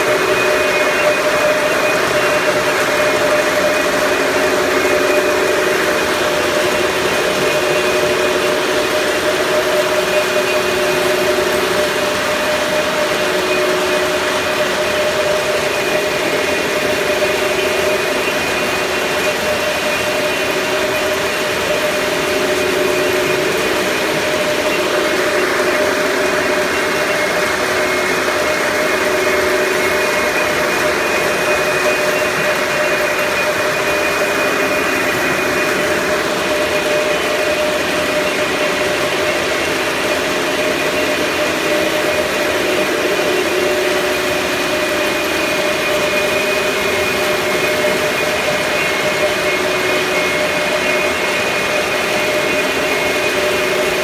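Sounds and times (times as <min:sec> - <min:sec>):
steady machine drone: 0:00.0 - 0:54.0.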